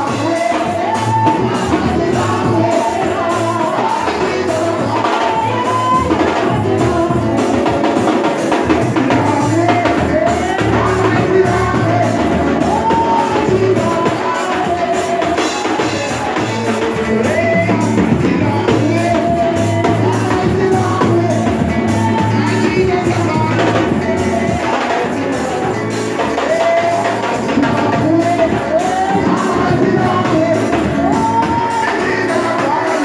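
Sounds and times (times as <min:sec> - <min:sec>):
bass: 0:00.0 - 0:33.0
drum kit beat: 0:00.0 - 0:33.0
voices singing gospel: 0:00.0 - 0:33.0.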